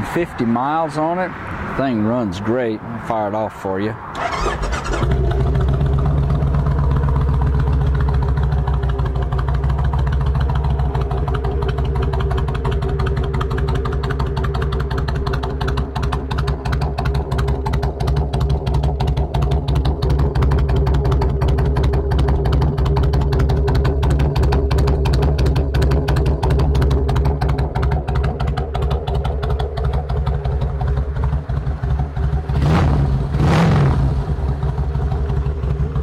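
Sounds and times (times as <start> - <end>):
motorcycle engine starting and idling: 4.1 - 36.0.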